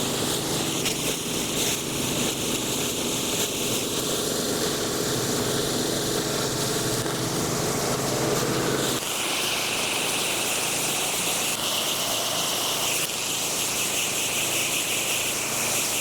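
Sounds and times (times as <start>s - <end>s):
pressure washer engine hum: 0.0s - 14.6s.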